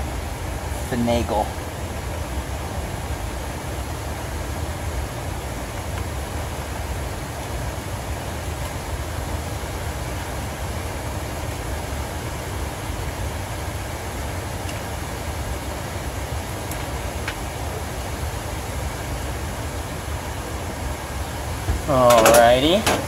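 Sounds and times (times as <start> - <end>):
air rushing through ductwork: 0.0 - 23.0.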